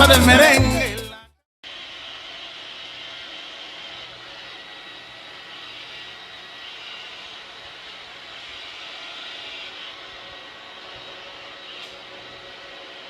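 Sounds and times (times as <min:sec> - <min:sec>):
mechanical drone with hiss: 0:01.8 - 0:13.0.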